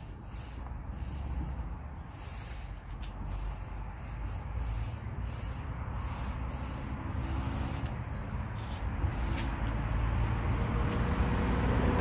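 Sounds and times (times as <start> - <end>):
hand rubbing paint on metal door: 0.0 - 9.9
low steady rumble: 0.0 - 11.2.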